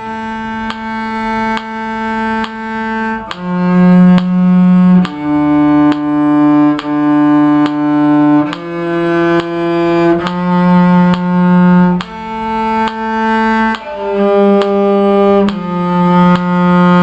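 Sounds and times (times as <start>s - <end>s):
cello bowing held notes: 0.0s - 17.0s.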